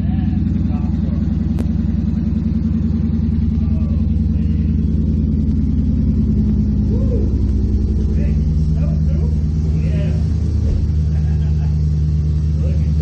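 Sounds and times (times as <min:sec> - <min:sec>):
car engine with open exhaust: 0:00.0 - 0:13.0.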